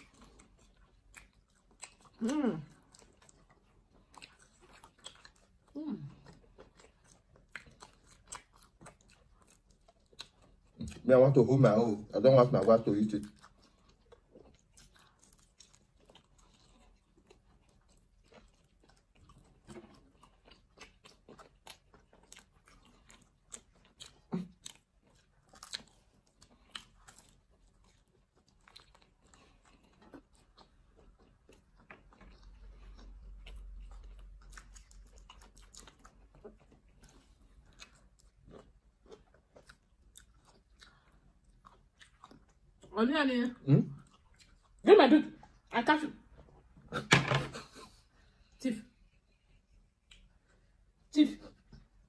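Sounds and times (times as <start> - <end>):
people chewing and biting: 0.0 - 43.0, 43.7 - 44.8, 49.0 - 52.0.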